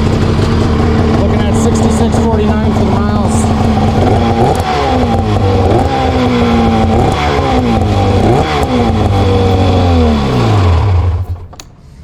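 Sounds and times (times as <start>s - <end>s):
snowmobile engine revving: 0.0s - 11.6s.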